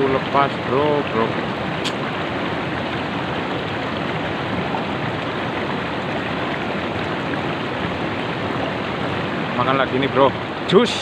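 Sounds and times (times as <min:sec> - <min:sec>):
river water running over stones: 0:00.0 - 0:11.0.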